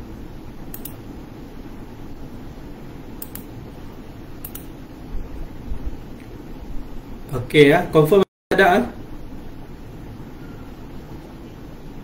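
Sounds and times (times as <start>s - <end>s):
room noise and hiss: 0.0s - 12.0s.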